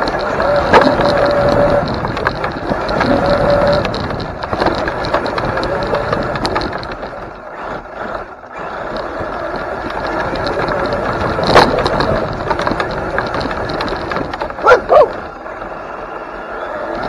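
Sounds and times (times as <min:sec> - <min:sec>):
electric motor whirring: 0:00.0 - 0:17.0.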